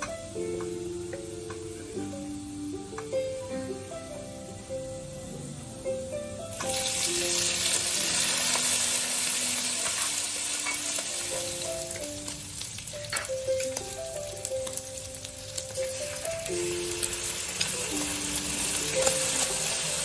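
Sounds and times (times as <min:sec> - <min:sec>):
seafood sizzling in a wok: 0:00.0 - 0:20.0
soft background music: 0:00.0 - 0:20.0.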